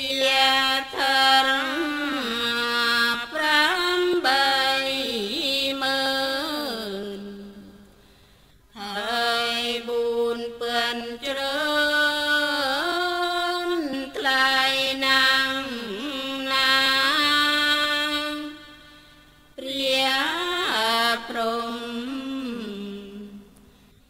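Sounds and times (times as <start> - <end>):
person chanting: 0.0 - 7.9, 8.7 - 19.0, 19.6 - 23.5.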